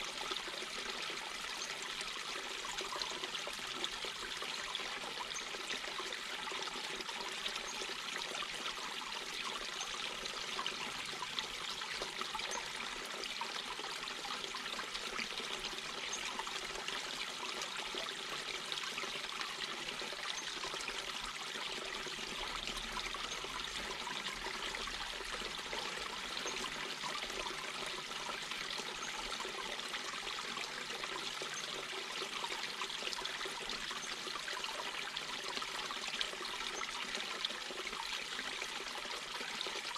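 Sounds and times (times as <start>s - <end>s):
brook babbling over rocks: 0.0s - 39.9s.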